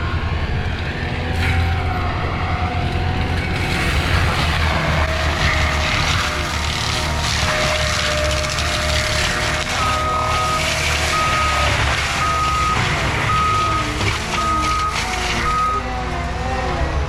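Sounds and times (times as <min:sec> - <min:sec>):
diesel engine running hard: 0:00.0 - 0:17.0.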